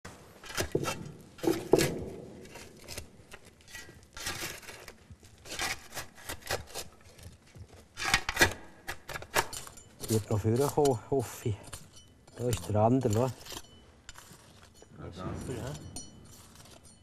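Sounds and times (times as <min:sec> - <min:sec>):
shovel scraping soil: 0:00.4 - 0:07.3, 0:08.0 - 0:17.0.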